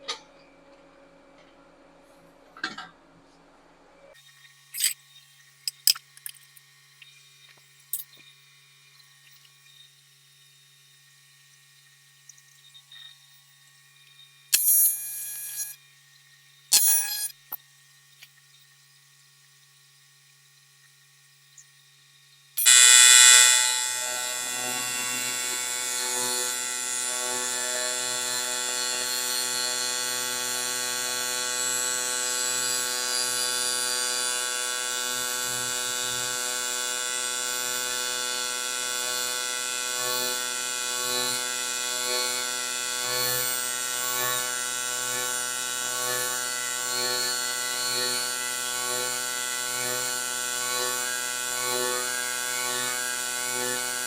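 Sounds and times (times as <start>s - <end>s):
welding arc buzzing: 4.7s - 9.7s, 12.4s - 16.0s, 16.6s - 18.6s, 21.3s - 54.0s.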